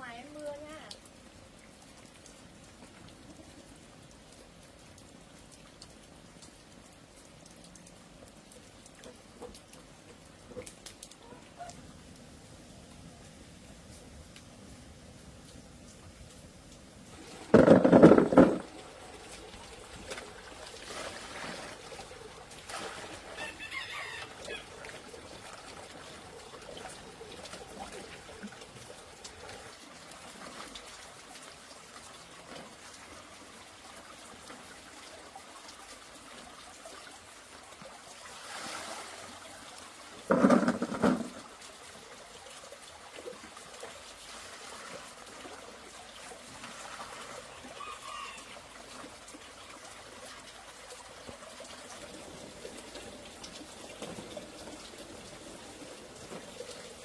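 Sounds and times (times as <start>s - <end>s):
light rain falling: 0.0s - 57.0s
water drips: 0.0s - 57.0s.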